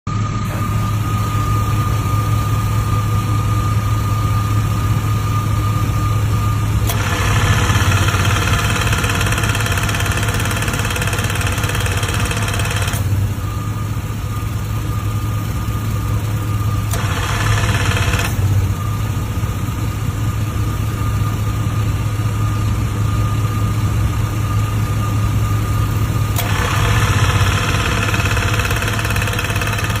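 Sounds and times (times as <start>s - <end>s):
compressor humming: 0.1s - 30.0s
harsh high-pitched compressor noise: 0.1s - 30.0s.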